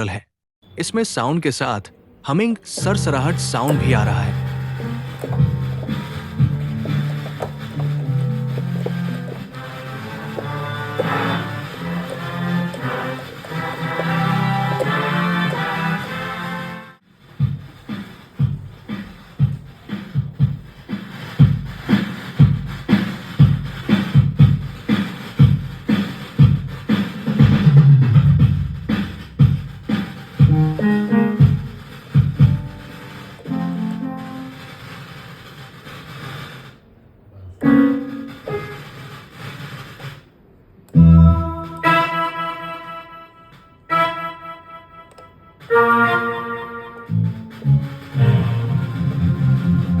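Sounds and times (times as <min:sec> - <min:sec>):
humming rustling noise: 0:02.7 - 0:16.4, 0:17.0 - 0:50.0
keyboard drum rhythm pattern: 0:02.8 - 0:16.2, 0:17.2 - 0:36.7, 0:37.6 - 0:43.8, 0:47.0 - 0:50.0.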